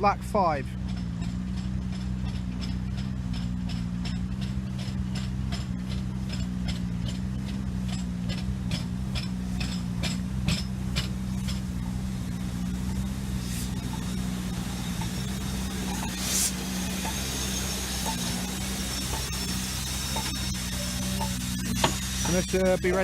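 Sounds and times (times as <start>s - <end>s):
train engine hum: 0.0s - 23.0s
wheels clicking over rail joints: 0.7s - 13.0s, 13.7s - 23.0s.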